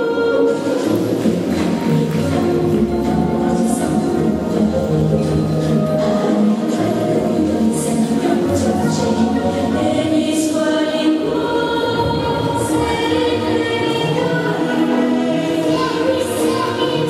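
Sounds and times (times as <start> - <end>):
choral music over sound system: 0.0 - 17.0.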